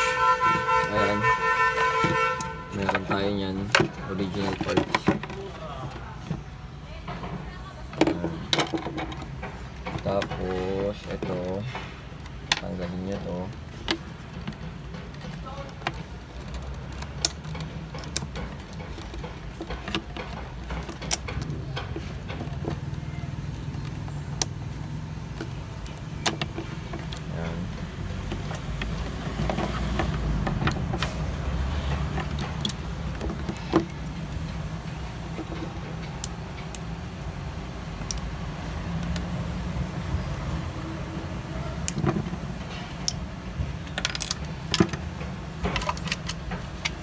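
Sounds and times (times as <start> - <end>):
clicks and knocks of hand work: 0.0 - 40.7, 41.6 - 47.0.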